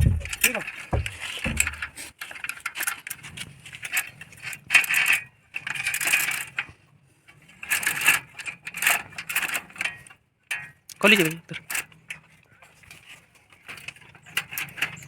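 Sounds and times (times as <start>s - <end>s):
bicycle chain clinking and rattling: 0.0s - 6.6s, 7.6s - 15.0s.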